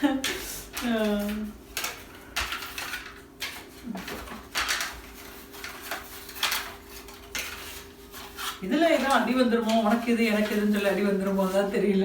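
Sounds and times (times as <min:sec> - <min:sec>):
rustling of things handled: 0:00.0 - 0:12.0.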